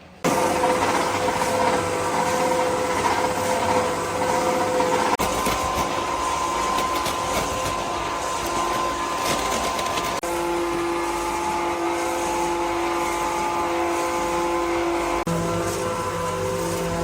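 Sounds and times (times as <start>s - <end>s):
workshop machinery whining: 0.0s - 17.0s.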